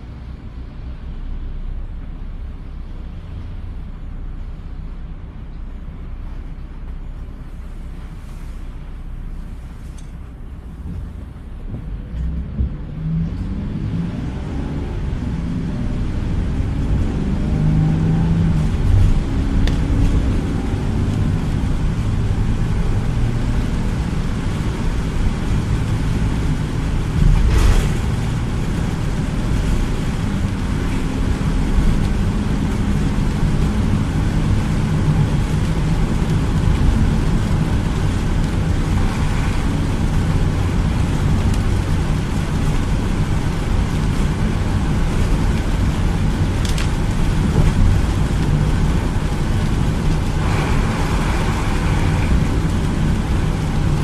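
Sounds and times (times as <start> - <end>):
engine and road drone: 0.0 - 54.0
tyres hissing on wet road: 7.3 - 11.2, 12.2 - 54.0.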